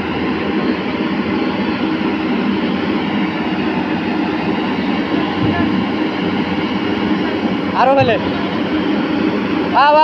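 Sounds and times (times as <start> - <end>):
excavator engine and hydraulics: 0.0 - 10.0.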